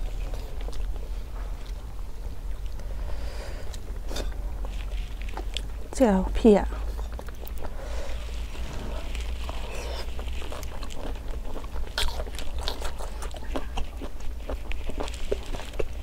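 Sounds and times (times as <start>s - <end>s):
chewing and crunching food: 0.0s - 16.0s
low hum: 0.0s - 16.0s.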